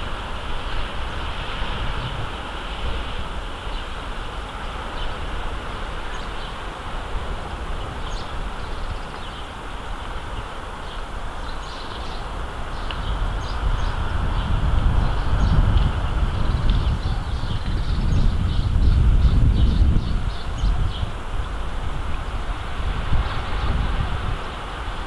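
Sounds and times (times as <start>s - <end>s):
steady high hiss: 0.0s - 25.0s
wind buffeting microphone: 0.0s - 25.0s.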